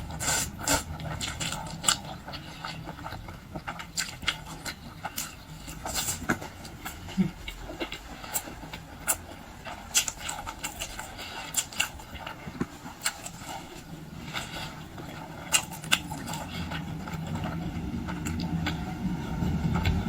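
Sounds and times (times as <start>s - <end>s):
chewing and mouth smacks: 0.0s - 19.0s
low steady hum: 0.0s - 20.0s.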